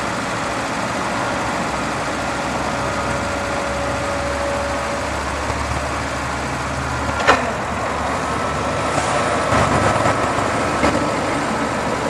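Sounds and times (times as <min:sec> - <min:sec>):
forklift engine rumbling: 0:00.0 - 0:12.0
thin steady whine: 0:00.0 - 0:12.0.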